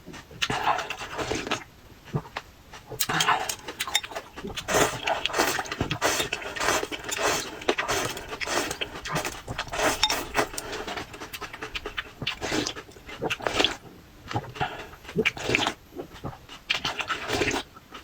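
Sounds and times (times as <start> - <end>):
wet chewing and crunching: 0.0 - 18.0.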